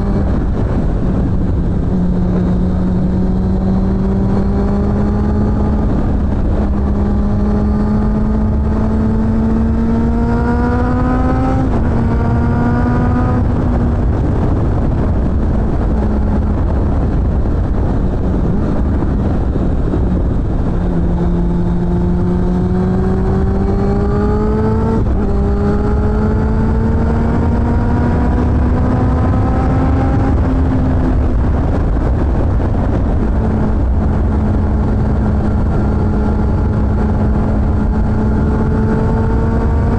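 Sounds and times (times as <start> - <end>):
motorcycle engine accelerating: 0.0 - 39.9
wind and road rumble: 0.0 - 39.9.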